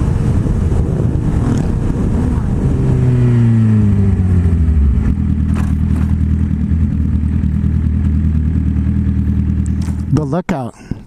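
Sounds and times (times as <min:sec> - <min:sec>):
motorcycle engine slowing and idling: 0:00.0 - 0:11.0.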